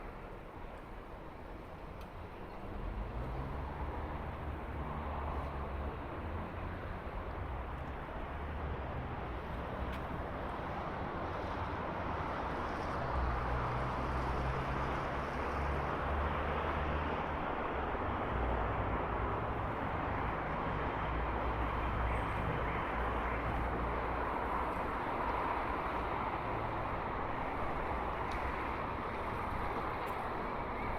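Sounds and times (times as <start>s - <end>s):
city traffic noise: 0.0s - 30.9s
passing vehicle engine rumble: 2.2s - 30.9s.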